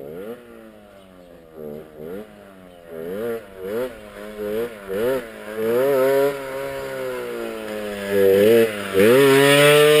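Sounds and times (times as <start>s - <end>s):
moped engine revving: 0.0s - 10.0s.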